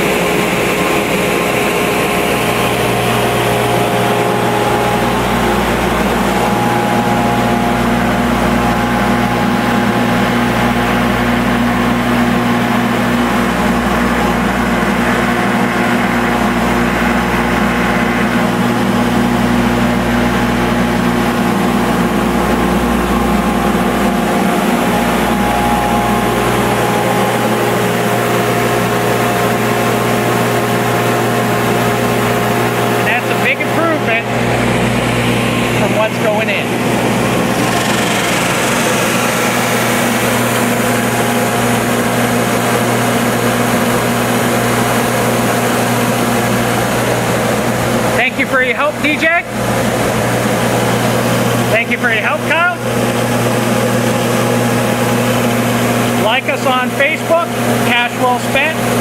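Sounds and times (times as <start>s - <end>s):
drum sander running: 0.0s - 59.0s
dust collector humming: 0.0s - 59.0s.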